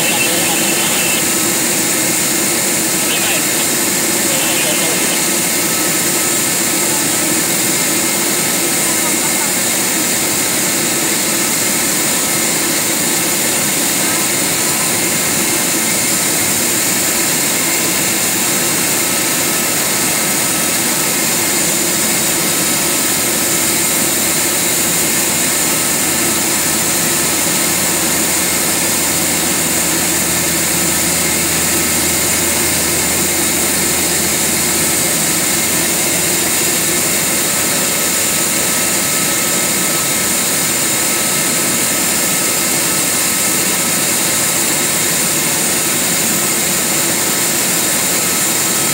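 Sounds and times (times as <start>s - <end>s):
jet engines idling whine: 0.0s - 48.9s.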